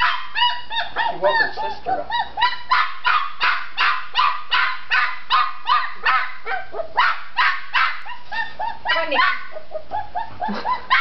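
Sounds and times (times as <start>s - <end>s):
puppy yapping: 0.0s - 11.0s.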